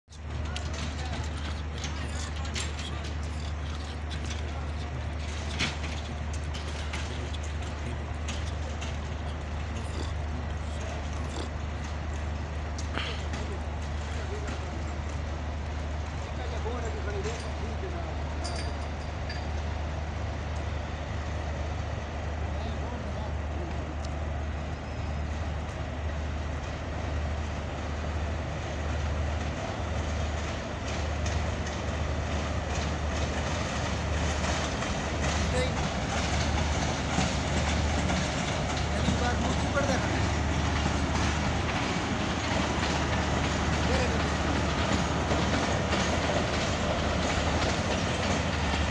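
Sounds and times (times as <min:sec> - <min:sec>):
diesel locomotive humming: 0:00.0 - 0:48.9
wheels clicking over rail joints: 0:00.1 - 0:19.8, 0:28.4 - 0:48.9
train clanks and knocks: 0:00.1 - 0:48.9.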